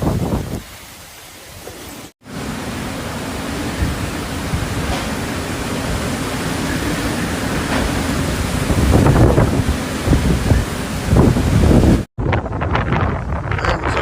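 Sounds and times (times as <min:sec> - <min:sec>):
driving rain: 0:00.0 - 0:14.0
hurricane wind: 0:00.0 - 0:14.0.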